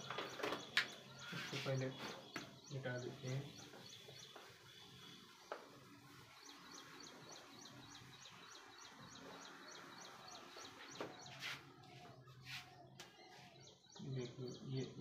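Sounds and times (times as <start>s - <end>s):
rapid high bird chirps: 0.0s - 15.0s.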